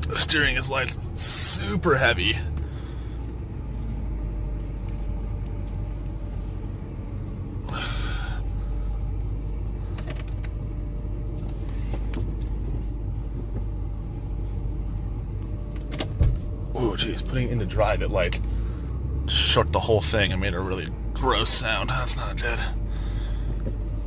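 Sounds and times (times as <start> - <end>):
car engine rumble from cabin: 0.0 - 24.0.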